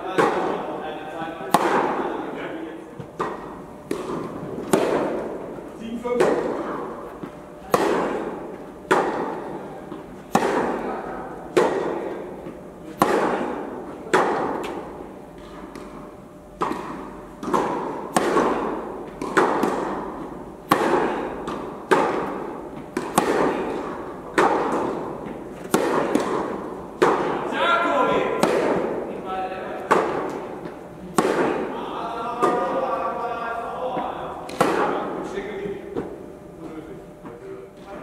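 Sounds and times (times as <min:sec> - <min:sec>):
tennis ball bouncing: 0:00.1 - 0:02.2, 0:03.0 - 0:27.5, 0:28.1 - 0:29.2, 0:29.8 - 0:32.9, 0:33.9 - 0:36.3
racket hitting tennis ball: 0:00.1 - 0:02.4, 0:03.0 - 0:33.0, 0:33.8 - 0:36.3.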